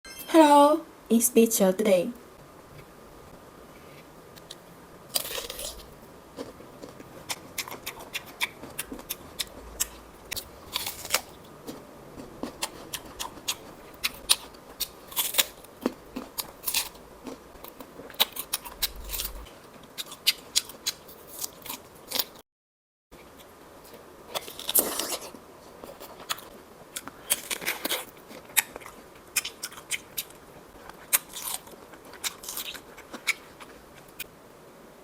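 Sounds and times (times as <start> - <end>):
biting and chewing peach: 4.4 - 22.4, 23.4 - 34.3.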